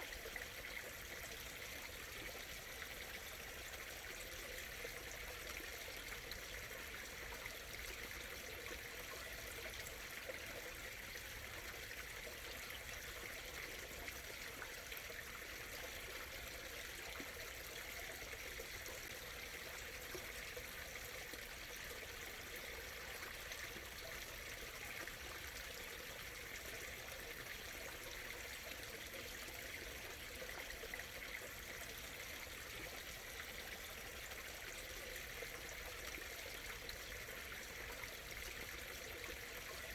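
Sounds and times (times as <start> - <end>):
stream murmuring and trickling: 0.0 - 39.9.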